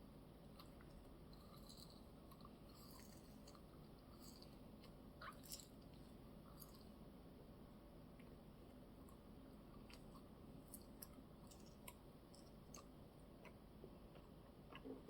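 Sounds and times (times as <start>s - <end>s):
chewing crisp cake: 0.2s - 7.2s, 8.2s - 15.0s.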